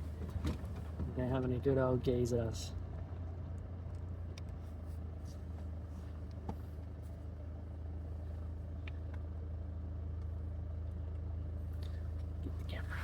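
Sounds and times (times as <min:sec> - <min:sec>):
vehicle engine and tyre drone: 0:00.0 - 0:13.0.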